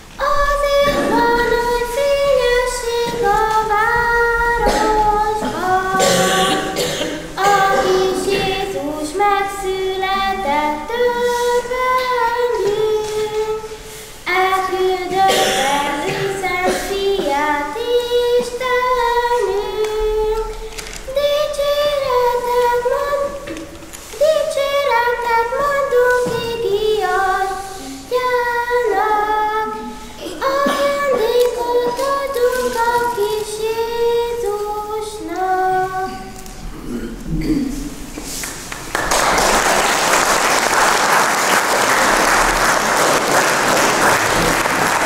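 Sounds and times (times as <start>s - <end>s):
children singing a carol: 0.0s - 36.7s.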